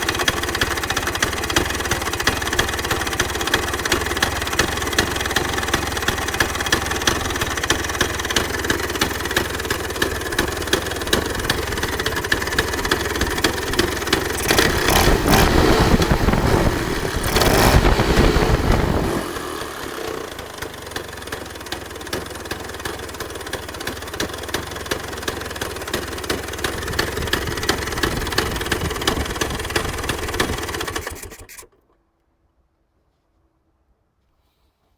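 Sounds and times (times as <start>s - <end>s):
two-stroke scooter engine revving: 0.0s - 31.8s.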